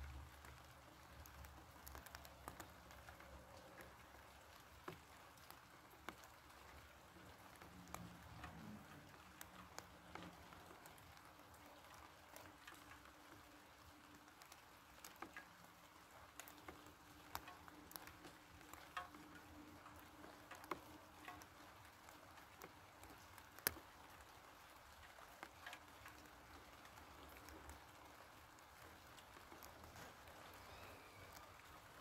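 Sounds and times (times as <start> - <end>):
raindrops ticking: 0.0 - 32.0
soft rain hiss: 0.0 - 32.0.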